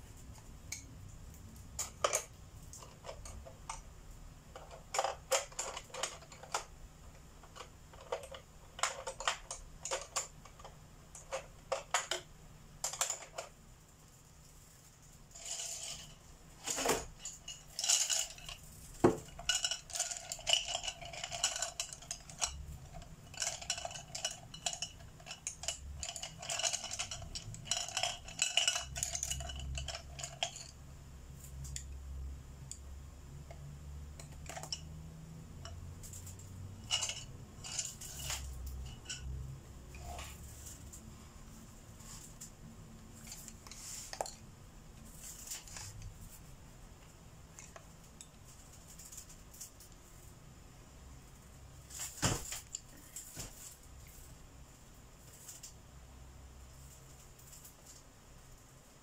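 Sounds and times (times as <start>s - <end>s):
pencils clattering in ceramic pot: 0.2s - 3.9s, 4.5s - 13.6s, 14.9s - 32.0s, 32.7s - 50.0s.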